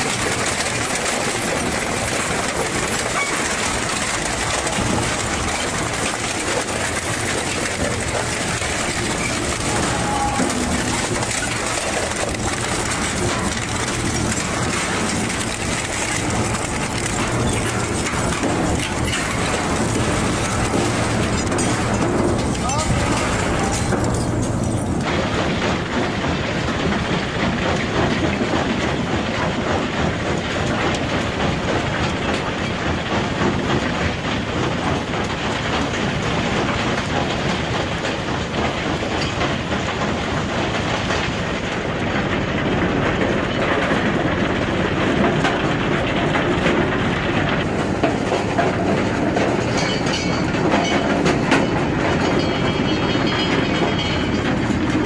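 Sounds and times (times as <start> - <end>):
rock clattering down steel chute: 0.0 - 55.0.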